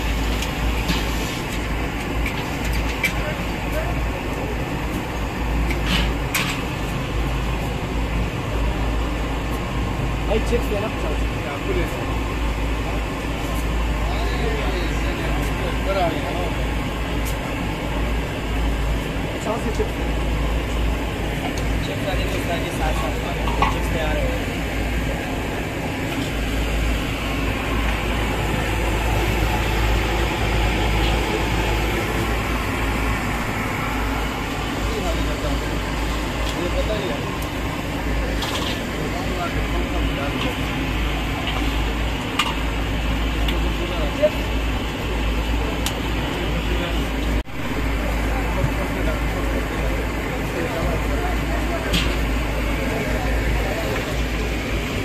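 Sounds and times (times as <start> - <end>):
background rumble and hiss: 0.0 - 55.0.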